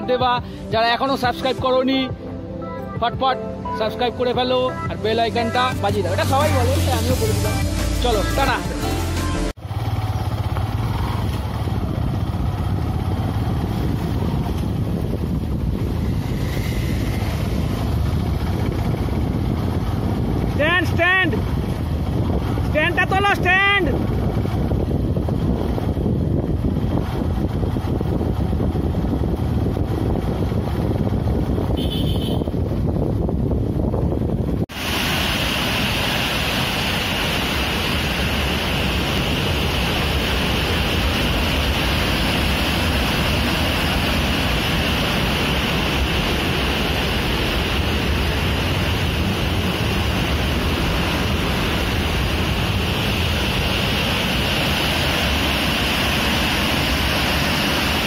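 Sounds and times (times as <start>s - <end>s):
wind rushing over microphone: 9.7s - 58.0s.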